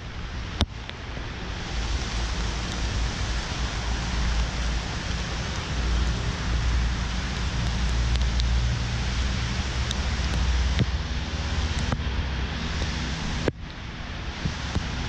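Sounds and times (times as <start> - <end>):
hiss of wind and rain: 0.0 - 15.0
wind buffeting camera microphone: 0.0 - 15.0.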